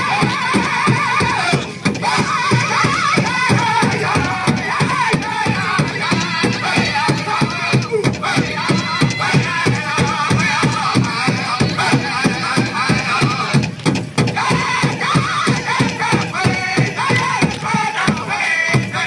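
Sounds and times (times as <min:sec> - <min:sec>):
large drum beating fast: 0:00.0 - 0:19.0
singers chanting in high voices: 0:00.0 - 0:19.0.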